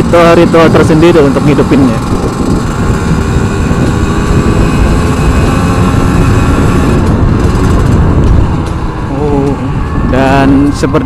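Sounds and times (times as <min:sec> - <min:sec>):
two-stroke motorcycle engine: 0:00.0 - 0:11.0
wind noise on microphone: 0:00.0 - 0:11.0.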